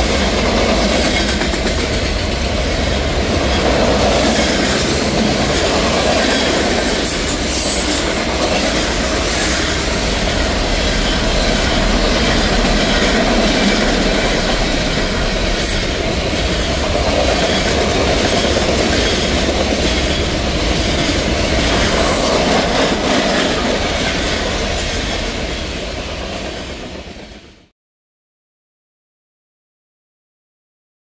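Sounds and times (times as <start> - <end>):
steel wheels clattering on rail: 0.0 - 27.5.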